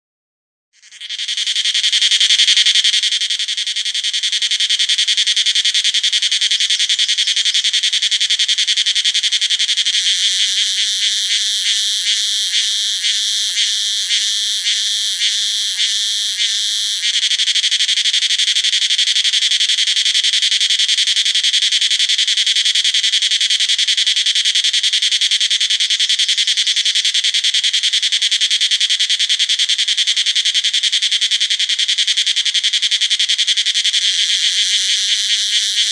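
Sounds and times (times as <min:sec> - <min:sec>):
cicada buzzing: 0:00.8 - 0:35.9.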